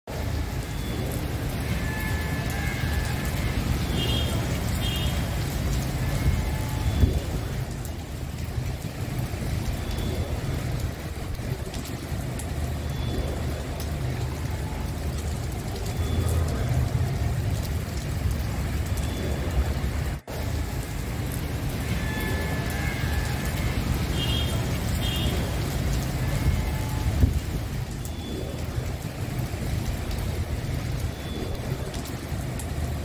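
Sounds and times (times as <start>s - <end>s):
rain on wet pavement: 0.1s - 33.0s.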